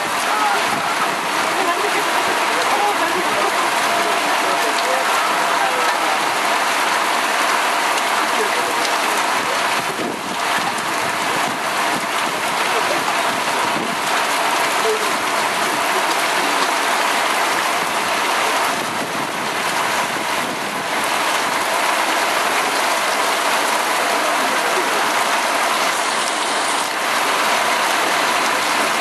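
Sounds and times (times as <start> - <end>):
heavy rain falling on trees: 0.0 - 29.0.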